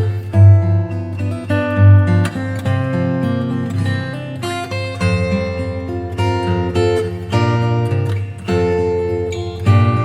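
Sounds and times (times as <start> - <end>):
acoustic guitar background music: 0.0 - 10.0.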